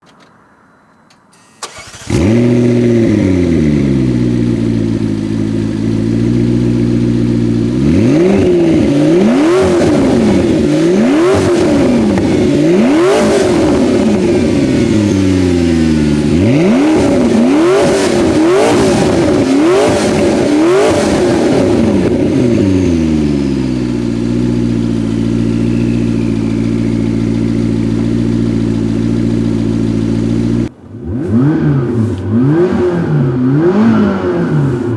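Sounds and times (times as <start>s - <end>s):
car engine starting up: 1.3s - 34.9s
car engine idling: 1.4s - 34.9s
car engine revving: 1.6s - 34.9s.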